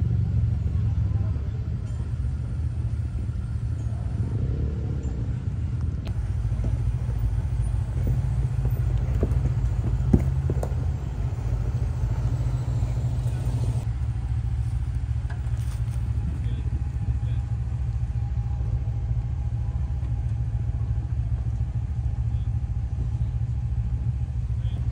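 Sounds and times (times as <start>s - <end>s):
engine and drivetrain rumble: 0.0s - 24.9s.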